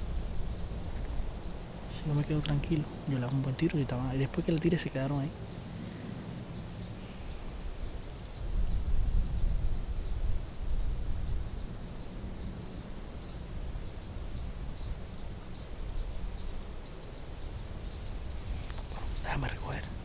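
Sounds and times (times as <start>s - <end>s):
low rumble on microphone: 0.0s - 16.6s
insects chirping: 0.0s - 20.0s.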